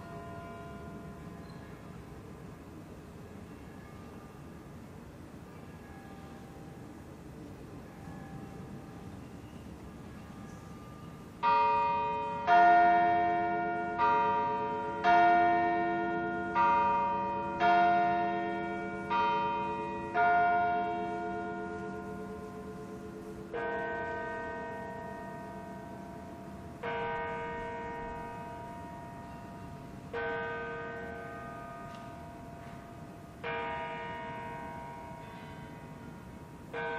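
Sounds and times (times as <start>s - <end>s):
church bells ding-dong: 0.0s - 36.9s.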